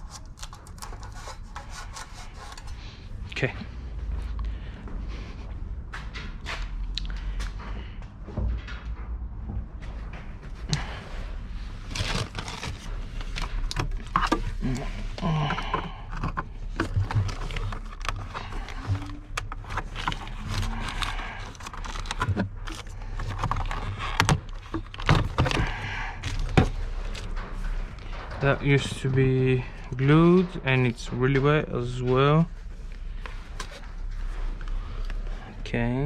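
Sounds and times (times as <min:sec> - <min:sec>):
steady low rumble: 0:02.6 - 0:36.0.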